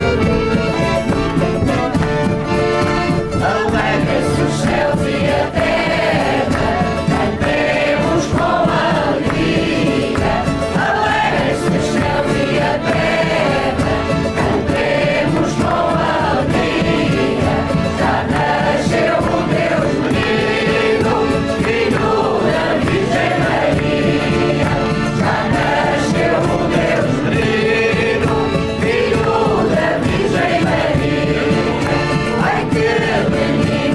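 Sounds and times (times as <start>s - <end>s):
choir singing: 0.0s - 33.9s.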